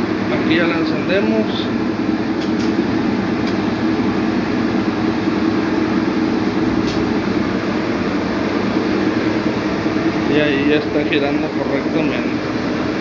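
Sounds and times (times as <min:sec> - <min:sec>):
clothes dryer drum rumbling: 0:00.0 - 0:13.0.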